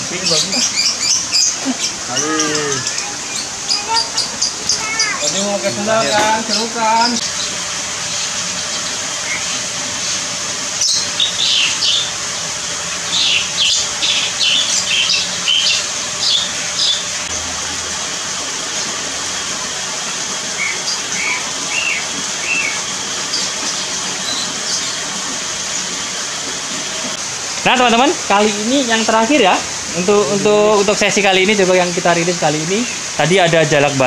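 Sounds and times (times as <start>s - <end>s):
birds chirping: 0.0s - 12.2s, 12.9s - 17.3s, 20.4s - 34.0s
small stream hissing: 0.0s - 34.0s.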